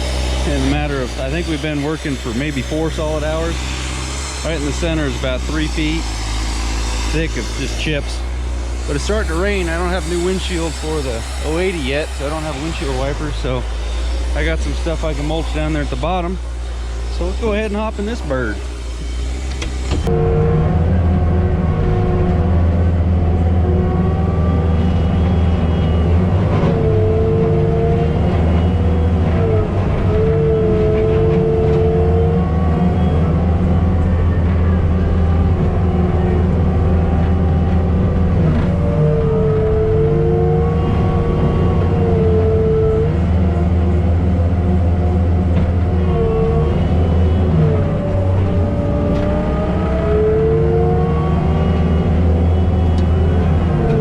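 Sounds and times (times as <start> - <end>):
diesel engine drone with whine: 0.0 - 54.0.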